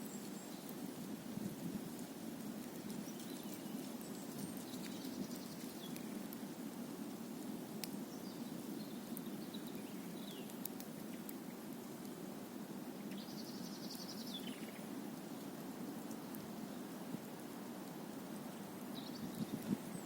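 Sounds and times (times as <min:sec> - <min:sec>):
campfire crackling and popping: 0:00.1 - 0:13.3, 0:13.9 - 0:20.0.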